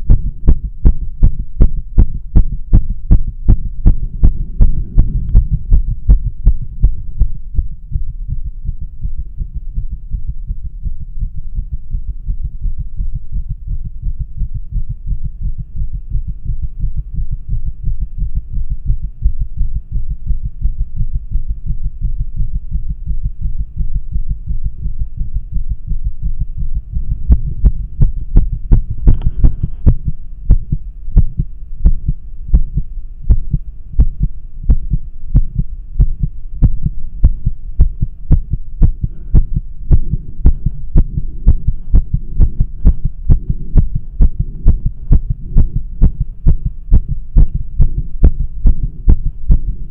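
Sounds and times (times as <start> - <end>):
fast heartbeat through stethoscope: 0.0 - 49.9
steady low hum: 0.0 - 49.9.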